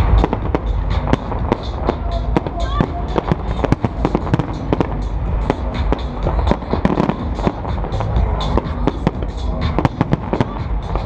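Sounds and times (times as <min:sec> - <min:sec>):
dance music bass: 0:00.0 - 0:11.0.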